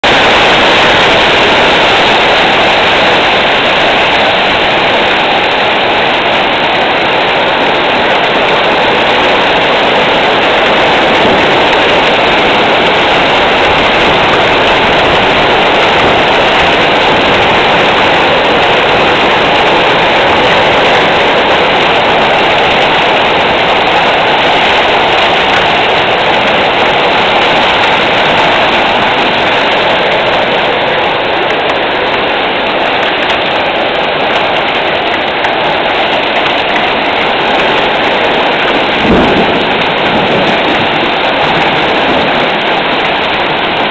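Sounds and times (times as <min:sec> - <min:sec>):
hail falling on cars and pavement: 0:00.0 - 0:43.9.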